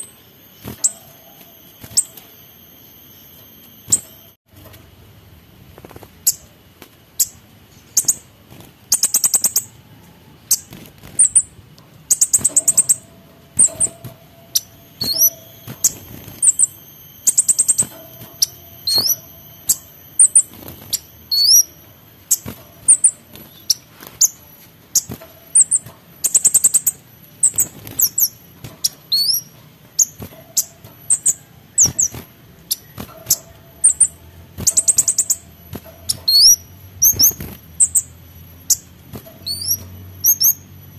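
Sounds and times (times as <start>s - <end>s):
songbird trilling and whistling: 0.0s - 4.4s, 6.2s - 6.5s, 7.2s - 8.3s, 8.9s - 40.8s.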